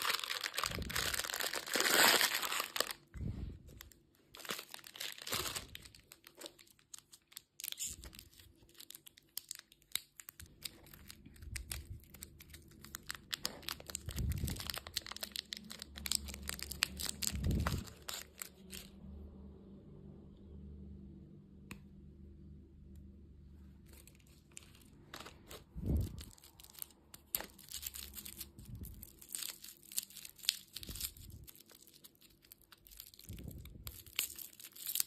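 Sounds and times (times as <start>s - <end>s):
plastic wrapper crinkling and tearing: 0.0s - 19.1s, 23.8s - 35.0s.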